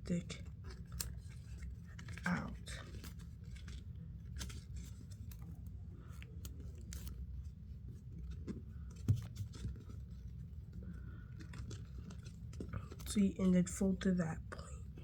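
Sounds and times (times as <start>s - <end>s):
paper crackling and creasing: 0.3s - 13.7s.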